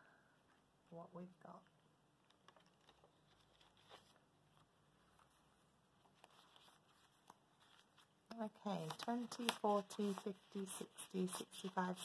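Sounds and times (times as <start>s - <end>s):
banknotes rustling: 1.5s - 12.0s.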